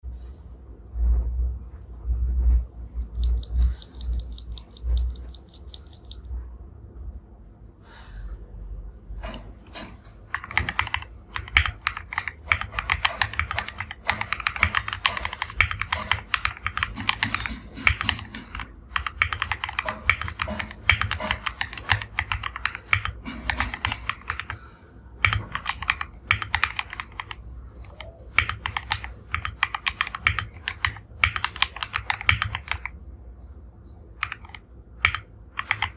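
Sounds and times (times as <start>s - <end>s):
mechanical keyboard typing: 3.1s - 6.4s, 9.2s - 33.0s, 34.2s - 35.9s.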